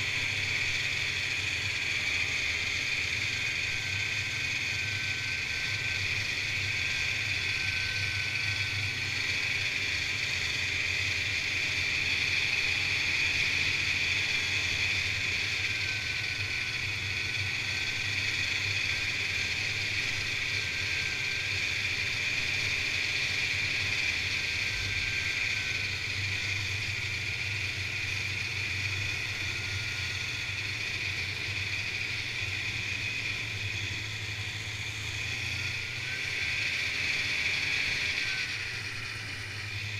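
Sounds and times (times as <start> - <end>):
snowmobile engine drone: 0.0 - 39.9.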